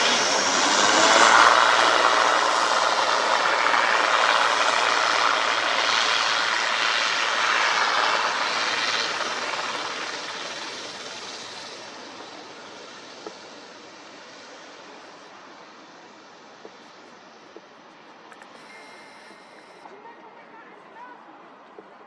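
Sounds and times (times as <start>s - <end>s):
airliner engines passing: 0.0s - 22.0s.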